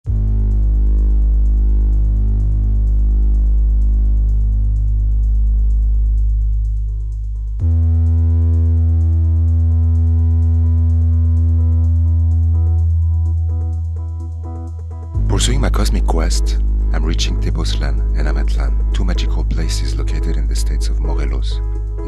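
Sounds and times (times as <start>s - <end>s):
synthesizer drone with heavy bass: 0.0s - 22.0s
short synthesizer notes: 0.1s - 22.0s.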